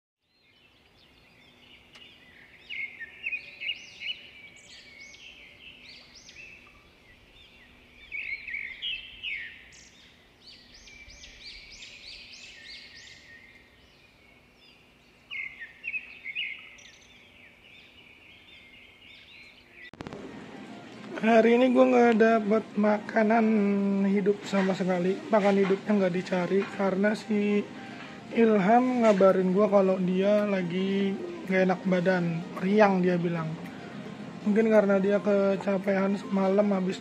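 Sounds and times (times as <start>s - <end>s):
birds chirping high-pitched: 0.2s - 20.1s, 20.9s - 37.0s.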